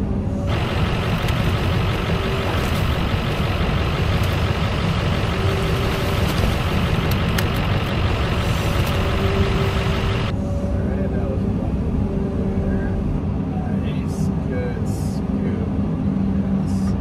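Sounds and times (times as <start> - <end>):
excavator diesel engine and hydraulics: 0.0 - 17.0.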